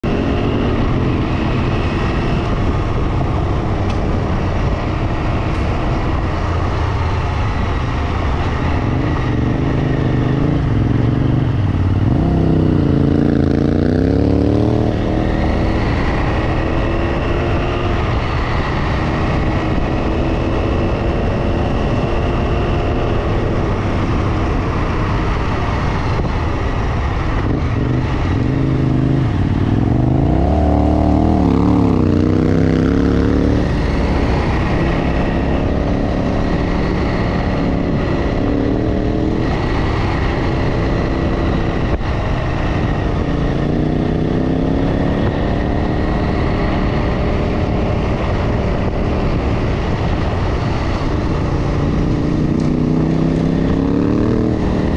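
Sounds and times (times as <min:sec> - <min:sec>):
road and wind noise: 0:00.0 - 0:54.9.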